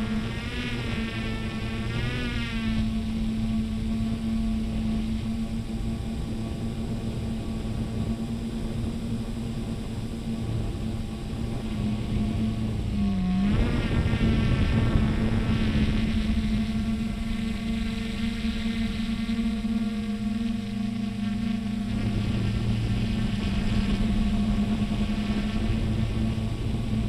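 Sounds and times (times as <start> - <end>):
drone propellers humming: 0.0 - 27.0.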